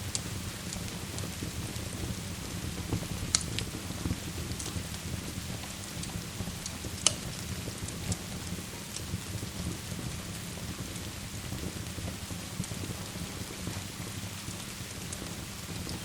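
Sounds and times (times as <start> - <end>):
fire crackling and popping: 0.0 - 16.0
steady rain hiss: 0.0 - 16.0.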